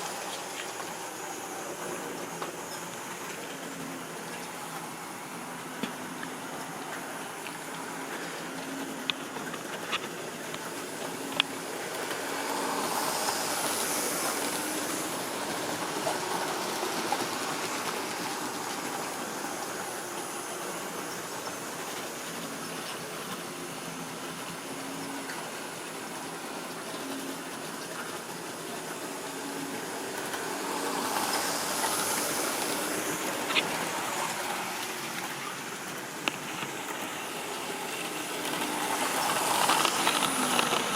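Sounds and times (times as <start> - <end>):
model train whirring rattle: 0.0 - 40.9.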